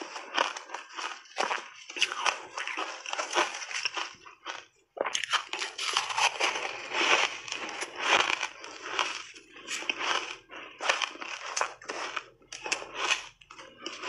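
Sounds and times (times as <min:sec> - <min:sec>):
chewing crunchy ice: 0:00.0 - 0:14.0.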